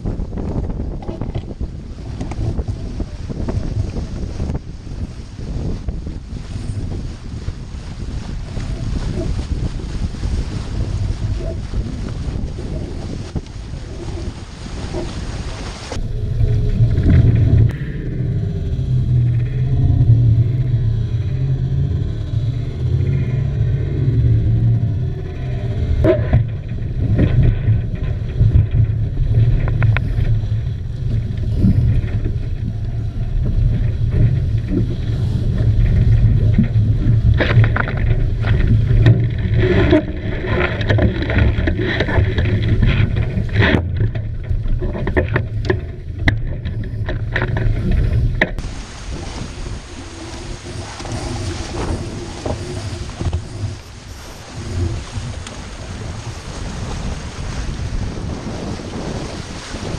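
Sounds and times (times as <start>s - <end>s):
water rushing past hulls: 0.0s - 59.9s
wind buffeting microphone: 0.0s - 59.9s.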